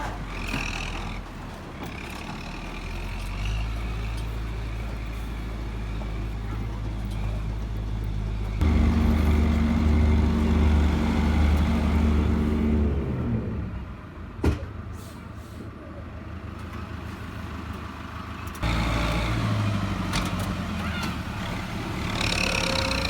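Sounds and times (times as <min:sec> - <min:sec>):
engine running and slowing: 0:00.0 - 0:14.4, 0:16.0 - 0:23.0.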